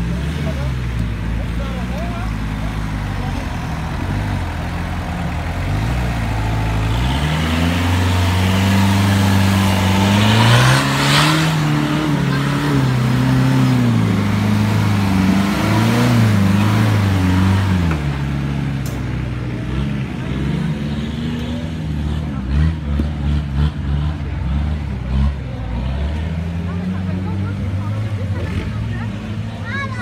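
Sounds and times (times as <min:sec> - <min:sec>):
buggy engine revving hard: 0:00.0 - 0:30.0.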